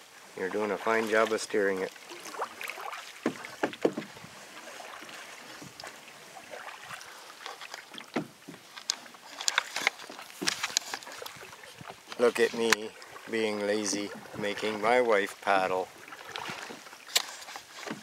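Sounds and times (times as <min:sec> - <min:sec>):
paddle splashing water: 0:00.0 - 0:18.0.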